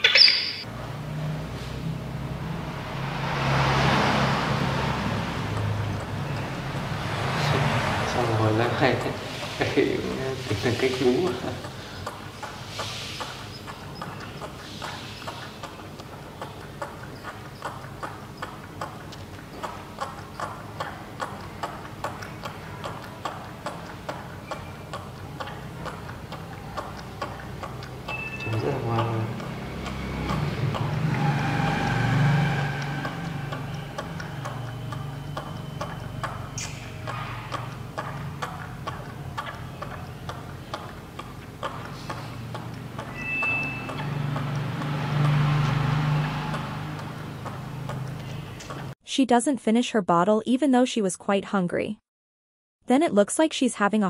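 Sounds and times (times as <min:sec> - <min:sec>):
low motor vehicle hum: 0:00.6 - 0:49.0
monkey sucking milk bottle: 0:04.1 - 0:49.0.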